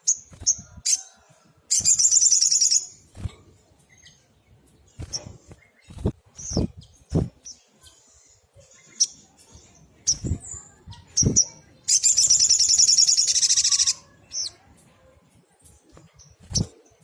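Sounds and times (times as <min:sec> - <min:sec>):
sunbird chirps and trill: 0:01.7 - 0:17.0.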